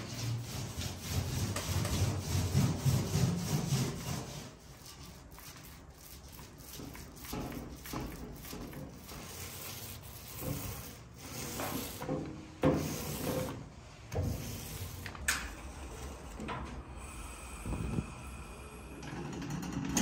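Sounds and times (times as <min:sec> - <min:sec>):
paint roller rubbing on metal: 0:00.0 - 0:16.5.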